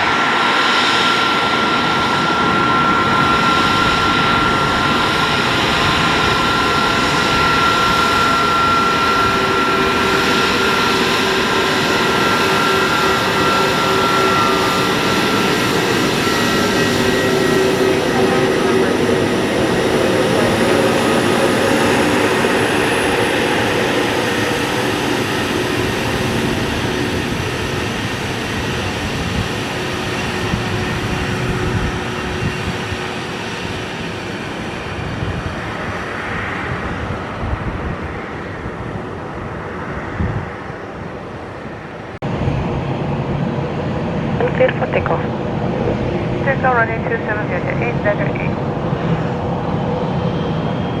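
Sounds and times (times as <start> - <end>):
jet engines whining: 0.0 - 51.0.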